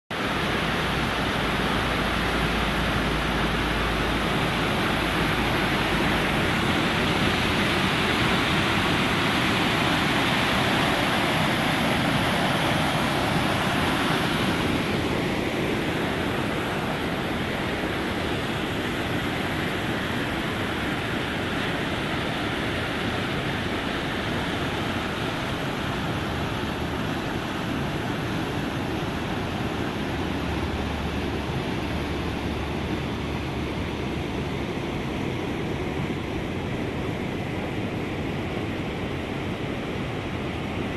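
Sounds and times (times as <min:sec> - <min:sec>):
waterfall and rapids roaring: 0:00.1 - 0:40.9.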